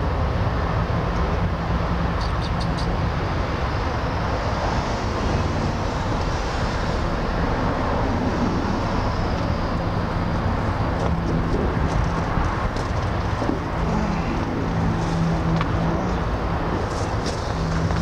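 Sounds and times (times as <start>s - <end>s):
low rumble and hiss: 0.0s - 18.0s.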